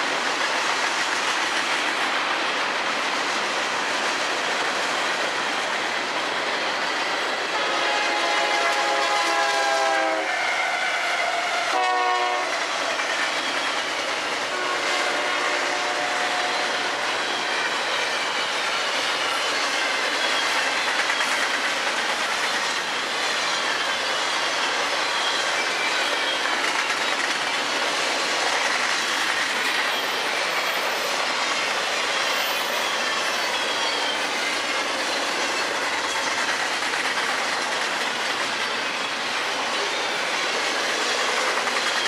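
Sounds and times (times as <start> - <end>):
freight train wheels on rail: 0.0 - 42.0.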